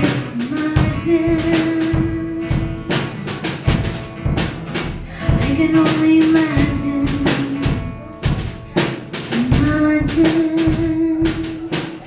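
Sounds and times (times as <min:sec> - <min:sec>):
drum kit hits: 0:00.0 - 0:12.0.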